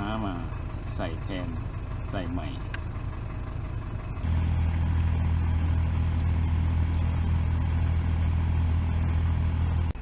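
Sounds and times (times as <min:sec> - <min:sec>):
pickup engine droning: 0:00.0 - 0:10.0.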